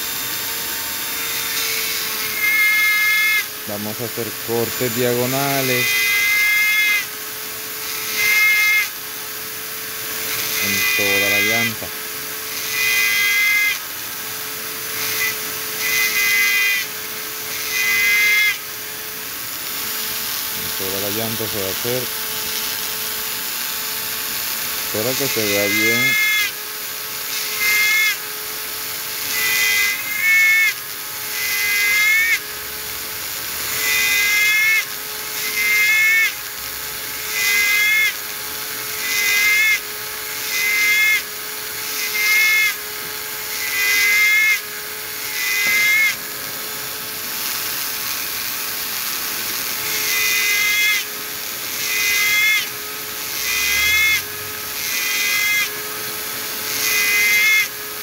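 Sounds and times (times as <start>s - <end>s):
mini drill whining: 0.0s - 58.0s
drill bit squealing on rubber: 0.4s - 32.8s, 33.6s - 58.0s.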